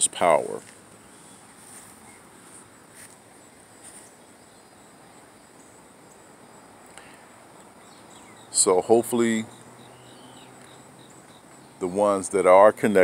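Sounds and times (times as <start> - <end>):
insects trilling: 1.1 - 12.2.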